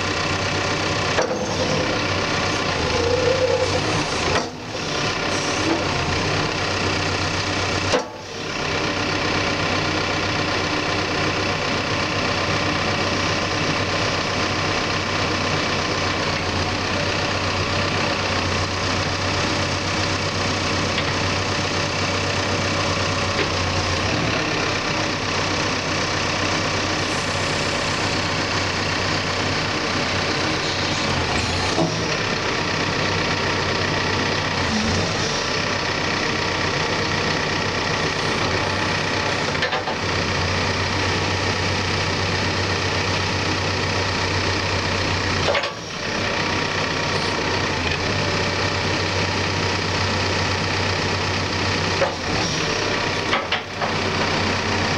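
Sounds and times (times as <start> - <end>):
backhoe diesel engine running: 0.0 - 54.9.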